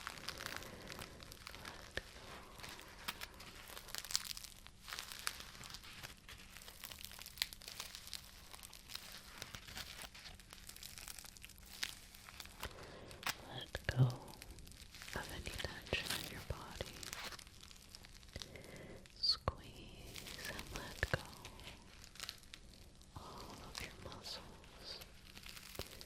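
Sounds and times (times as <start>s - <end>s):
crinkling and crackling: 0.0s - 26.0s.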